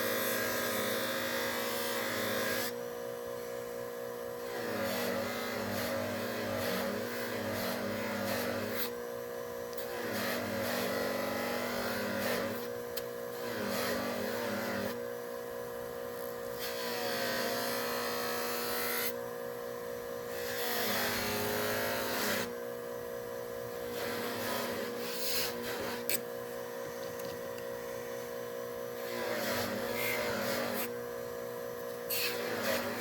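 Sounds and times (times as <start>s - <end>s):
small electric power tool humming: 0.0s - 33.0s.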